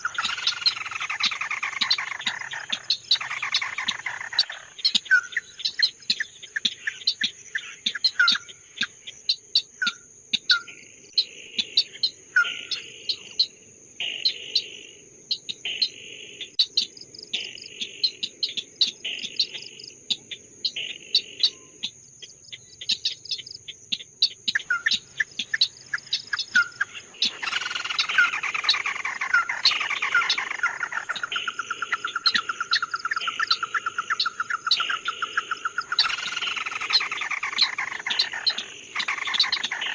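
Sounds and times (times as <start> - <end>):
songbird chirping and singing: 0.0 - 39.9.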